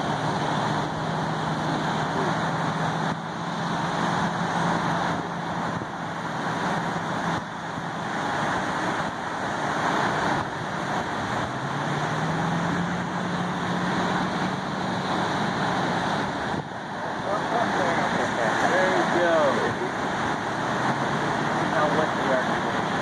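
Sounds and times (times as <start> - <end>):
surf breaking: 0.0 - 23.0
vehicle engine running: 0.0 - 23.0
wind: 0.0 - 23.0.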